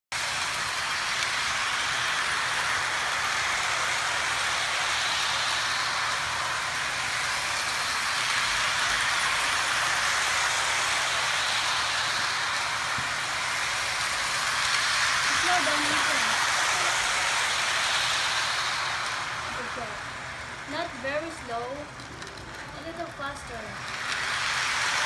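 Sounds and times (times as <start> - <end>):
model train whirring on track: 0.2 - 25.0.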